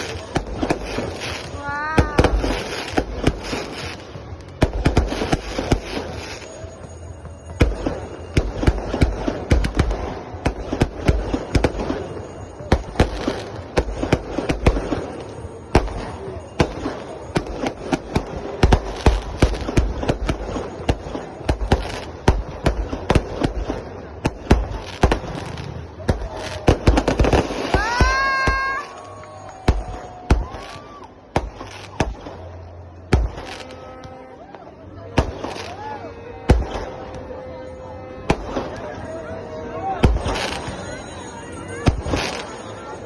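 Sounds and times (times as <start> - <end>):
fireworks bangs and pops: 0.0 - 34.4, 35.1 - 39.2, 40.0 - 43.0
low fireworks booms: 0.0 - 43.0.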